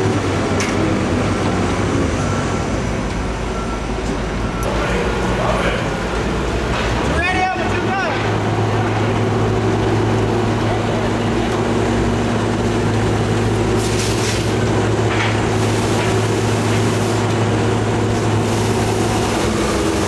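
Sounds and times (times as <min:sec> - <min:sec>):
heavy machinery drone: 0:00.0 - 0:20.0.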